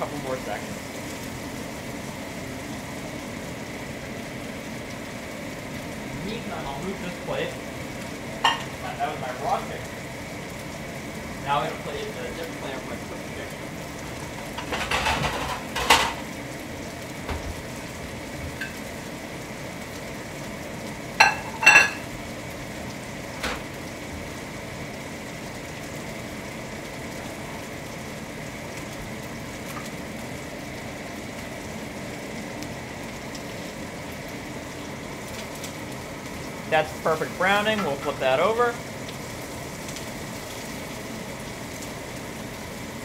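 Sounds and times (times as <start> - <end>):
chicken sizzling in frying pan: 0.0 - 43.0.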